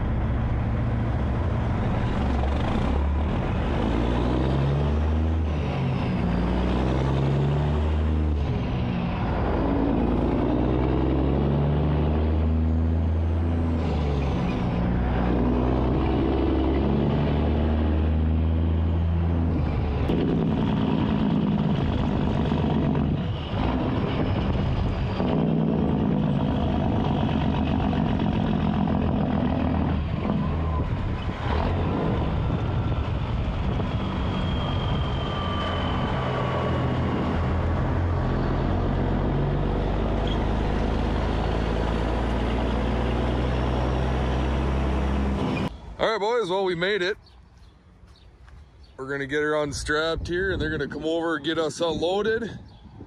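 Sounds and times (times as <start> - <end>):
truck diesel engine running: 0.0 - 45.7
road noise: 0.0 - 53.0.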